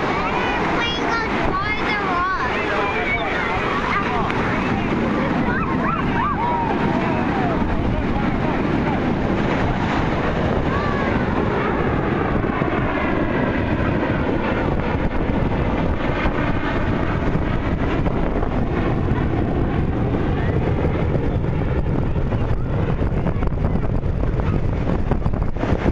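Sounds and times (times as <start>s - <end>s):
jet engines passing overhead: 0.0s - 25.9s
wind buffeting microphone: 0.0s - 25.9s.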